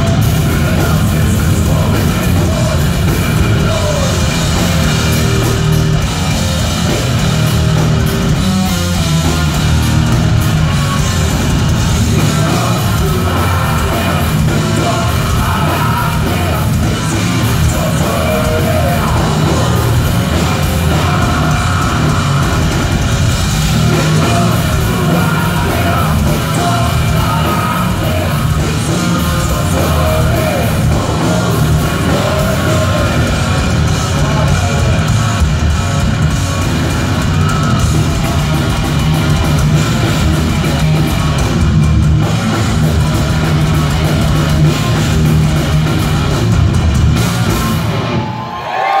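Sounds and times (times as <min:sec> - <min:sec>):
thrash metal band playing live: 0:00.0 - 0:49.0.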